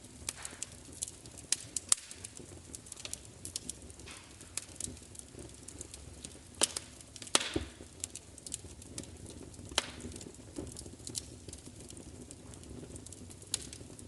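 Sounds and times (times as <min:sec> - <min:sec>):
wood fire crackling: 0:00.0 - 0:14.0
sharp pops and snaps: 0:00.3 - 0:12.0.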